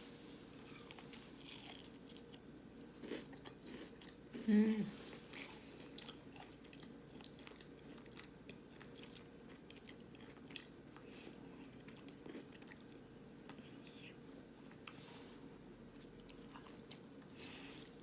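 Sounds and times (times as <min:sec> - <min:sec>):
close-up chewing with crunches: 0:00.5 - 0:04.4, 0:05.1 - 0:14.0, 0:15.9 - 0:18.0.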